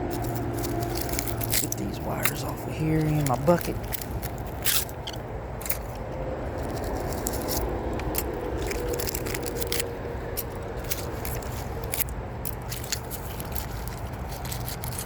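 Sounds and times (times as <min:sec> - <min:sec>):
low background rumble: 0:00.0 - 0:15.0
metal scraping: 0:00.0 - 0:15.0
sharp metal clicks: 0:00.0 - 0:15.0.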